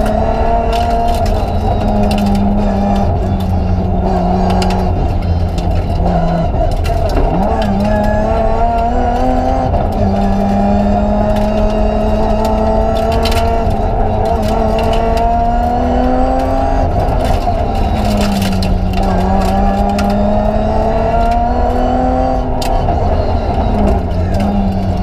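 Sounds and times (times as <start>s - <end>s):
car engine accelerating: 0.0s - 25.0s
sharp clicks: 0.0s - 25.0s.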